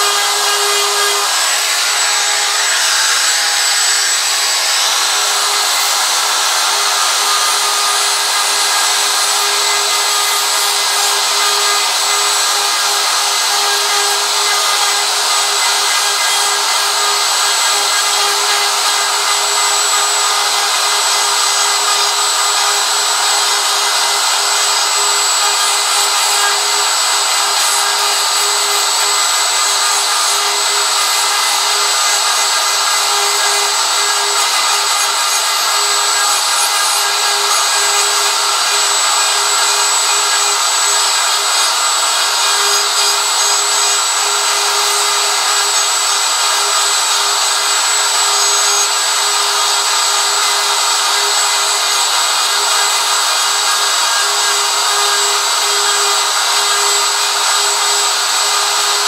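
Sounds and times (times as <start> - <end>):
router cutting wood: 0.0 - 59.0.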